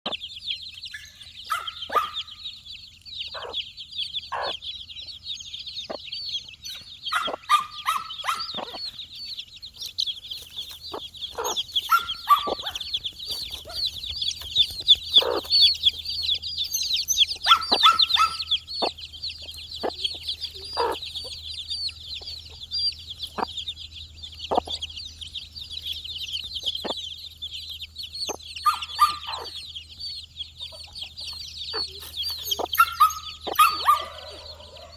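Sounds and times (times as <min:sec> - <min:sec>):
chicks peeping: 0:00.0 - 0:34.9
lower louder chick calls: 0:00.1 - 0:34.9.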